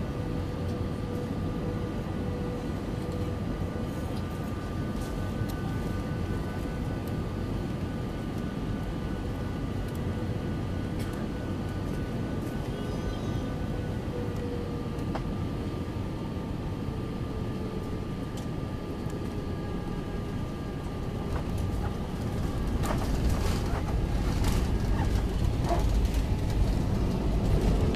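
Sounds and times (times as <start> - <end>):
airliner cabin low rumble: 0.0 - 27.9
faint whining tones: 0.0 - 27.9.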